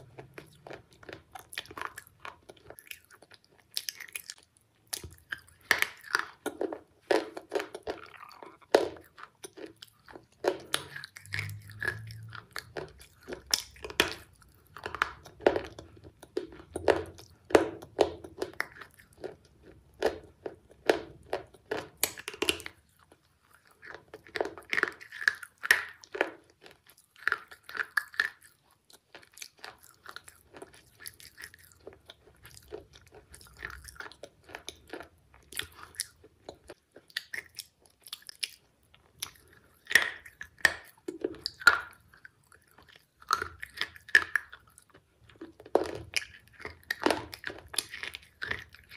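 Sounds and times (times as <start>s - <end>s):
person crunching crisp snack: 0.0s - 48.9s.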